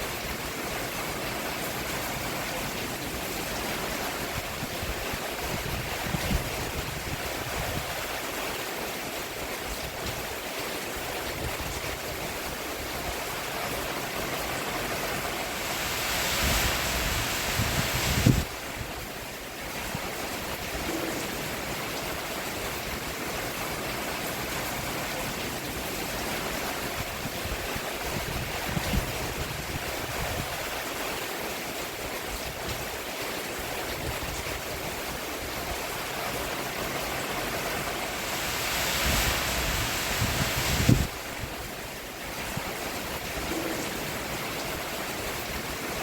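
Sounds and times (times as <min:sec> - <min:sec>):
rain on a roof: 0:00.0 - 0:46.0.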